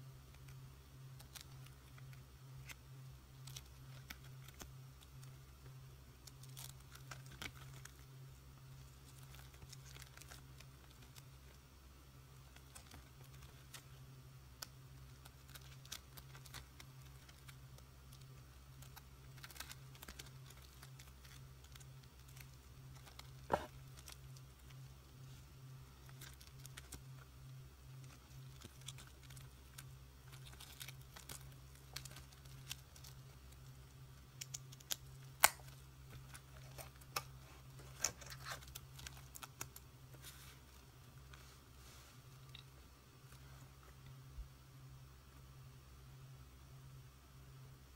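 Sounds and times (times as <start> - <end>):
steady low hum: 0.0 - 47.9
plastic sleeves crinkling: 1.1 - 11.6, 12.3 - 44.0.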